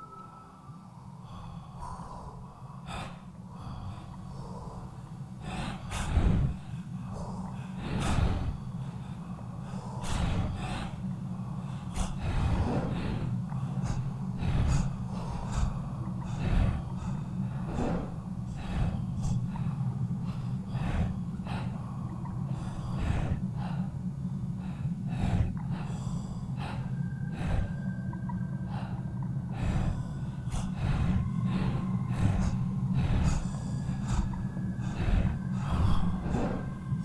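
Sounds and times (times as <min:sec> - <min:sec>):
person gasping breaths: 0:00.0 - 0:37.0
steady low hum: 0:00.0 - 0:37.0.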